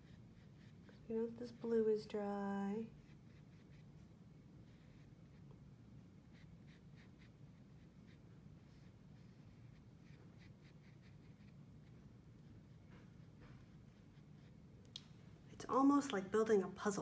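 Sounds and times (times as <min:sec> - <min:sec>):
paintbrush dabbing on paper: 0:00.0 - 0:14.7.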